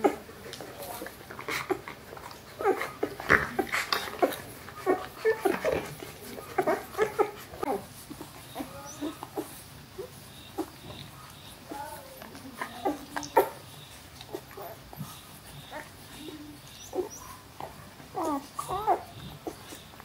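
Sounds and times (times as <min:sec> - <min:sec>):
puppies whimpering: 0:00.0 - 0:20.0.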